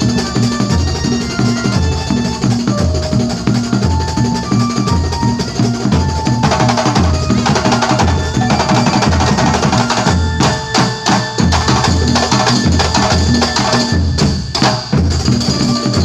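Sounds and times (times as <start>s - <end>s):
deep bass drum beats: 0.0s - 16.0s.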